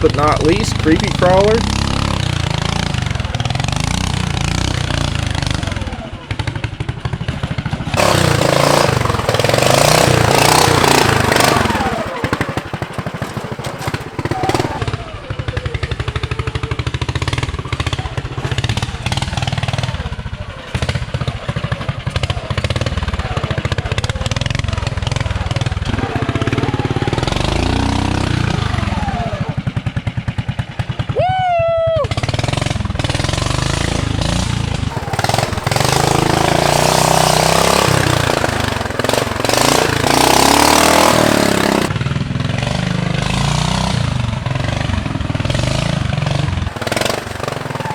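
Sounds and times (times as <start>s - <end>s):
lawn tractor engine revving: 0.0s - 30.3s, 32.1s - 47.9s.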